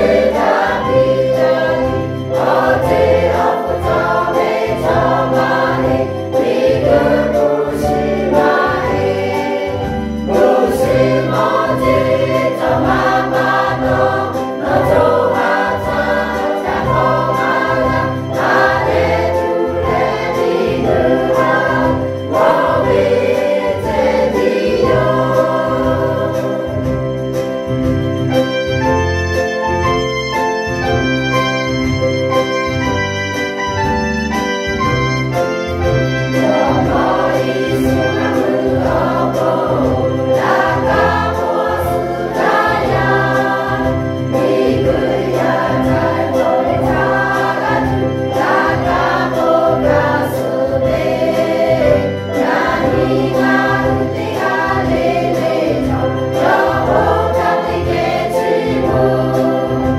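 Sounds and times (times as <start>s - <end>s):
mixed choir singing a hymn: 0.0s - 28.0s, 35.8s - 59.9s
instrumental accompaniment with bass beat: 0.0s - 59.9s.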